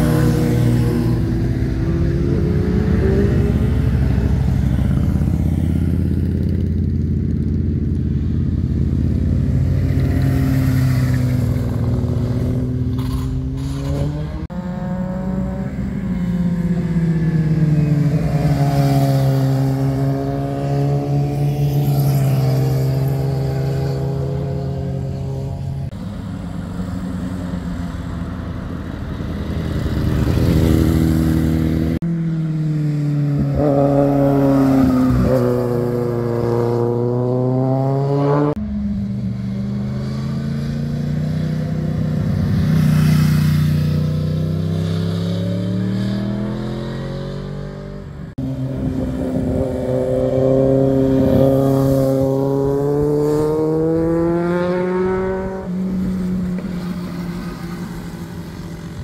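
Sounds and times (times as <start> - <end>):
motorcycles slowing and accelerating: 0.0 - 59.0.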